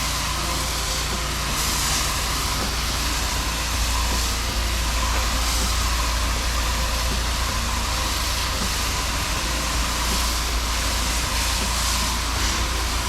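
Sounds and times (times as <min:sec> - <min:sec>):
hiss of water spray: 0:00.0 - 0:13.0
low engine rumble: 0:00.0 - 0:13.0.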